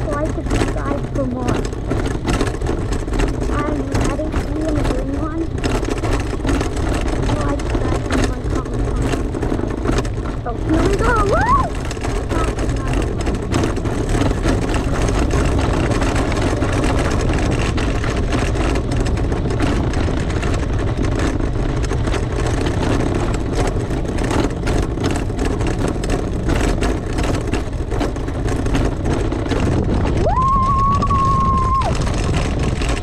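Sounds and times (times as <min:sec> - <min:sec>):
knocks and rattles: 0:00.0 - 0:33.0
quad bike engine rumbling: 0:00.0 - 0:33.0.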